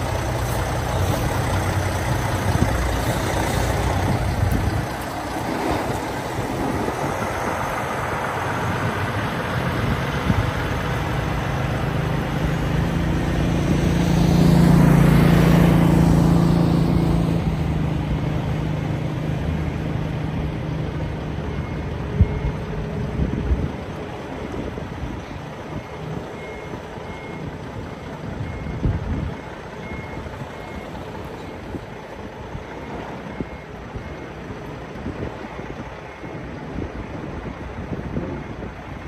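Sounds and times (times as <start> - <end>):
truck diesel engine running: 0.0 - 39.0.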